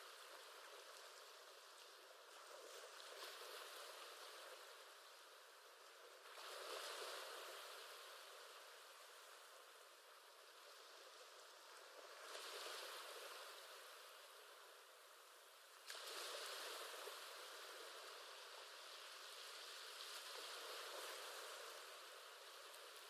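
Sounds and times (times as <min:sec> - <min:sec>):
faint ocean waves: 0:00.0 - 0:23.0.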